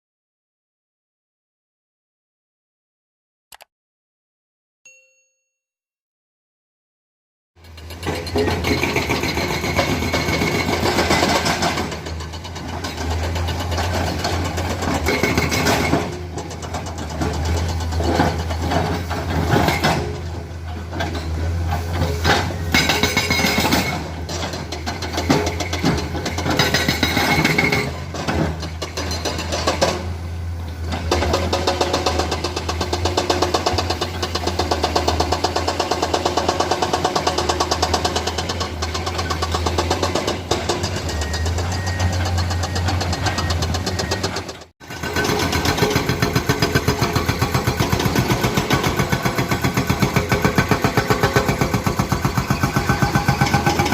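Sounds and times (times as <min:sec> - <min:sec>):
excavator diesel engines clattering: 0:07.6 - 0:53.9.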